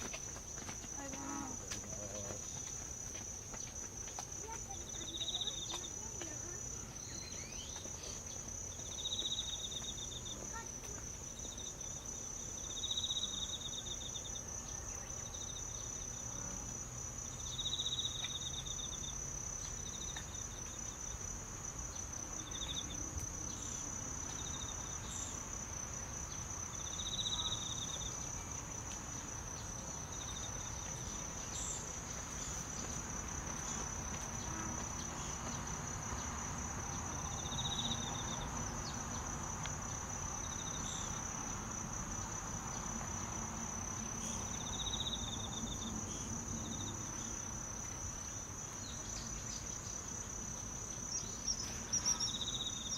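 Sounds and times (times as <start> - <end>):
insect high steady trill: 0.0 - 52.9.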